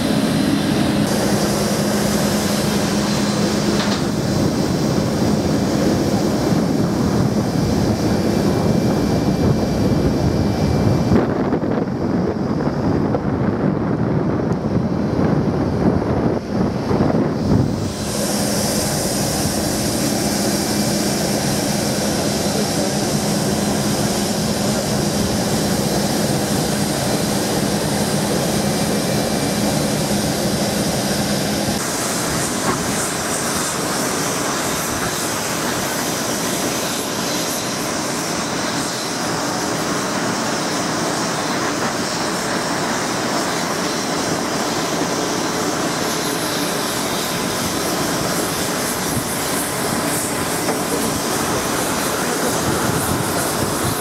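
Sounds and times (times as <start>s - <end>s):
jet turbine rush and whine: 0.0s - 54.0s.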